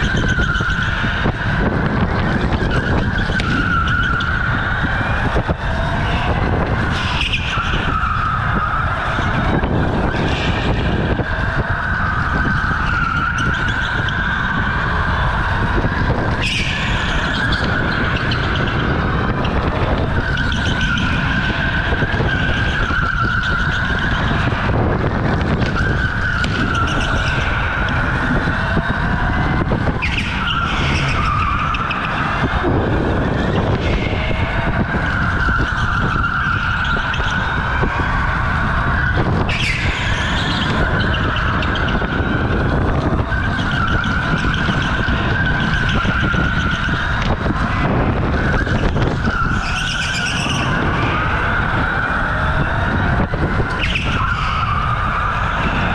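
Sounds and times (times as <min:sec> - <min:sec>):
electric go-kart motor whine: 0:00.0 - 0:55.9
tyres squealing: 0:00.0 - 0:55.9.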